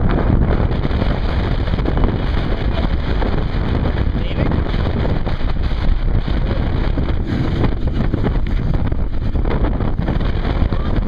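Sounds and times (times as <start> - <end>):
water rushing: 0.0 - 11.0
wind buffeting microphone: 0.0 - 11.0.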